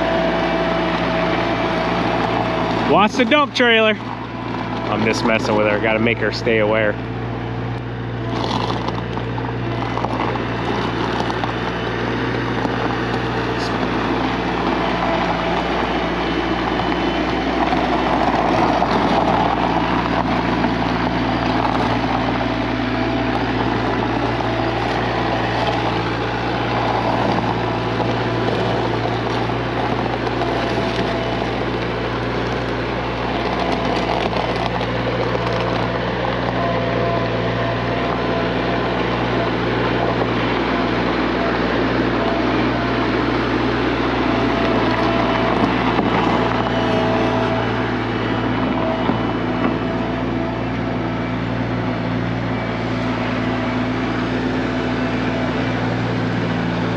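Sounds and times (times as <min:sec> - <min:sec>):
machine working noise: 0:00.0 - 0:56.9
skid steer loader engine droning: 0:00.0 - 0:56.9.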